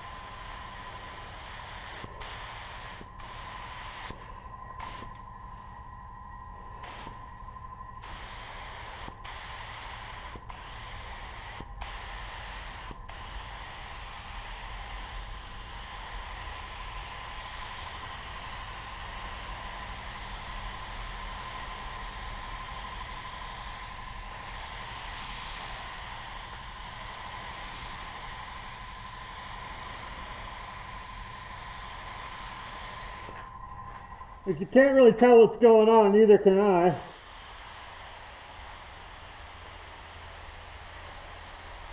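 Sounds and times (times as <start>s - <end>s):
paint spray gun hissing: 0.0s - 5.2s, 6.8s - 7.2s, 8.0s - 33.5s, 34.2s - 41.9s.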